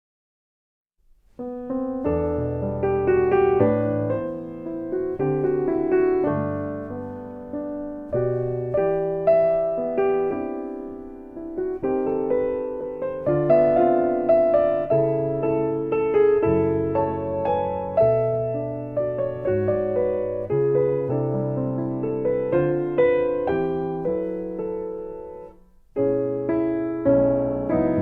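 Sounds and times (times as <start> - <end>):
slow piano music: 1.2 - 28.0.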